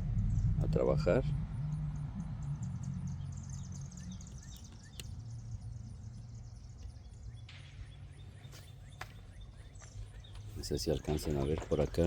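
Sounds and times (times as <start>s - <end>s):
low steady hum: 0.0s - 12.0s
faint bird chirps: 0.2s - 12.0s.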